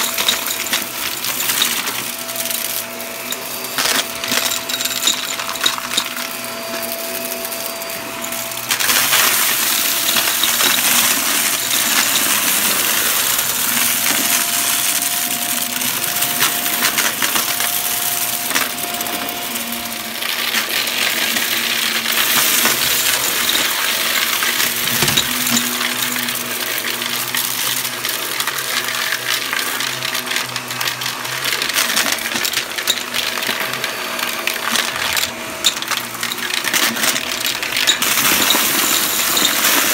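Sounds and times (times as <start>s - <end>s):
debris crunching in vacuum nozzle: 0.0s - 39.9s
vacuum cleaner motor: 0.0s - 39.9s.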